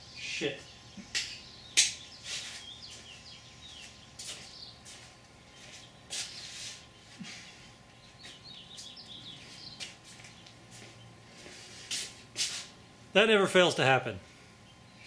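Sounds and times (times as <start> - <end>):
birds chirping faintly: 0.0 - 12.4, 13.2 - 15.0.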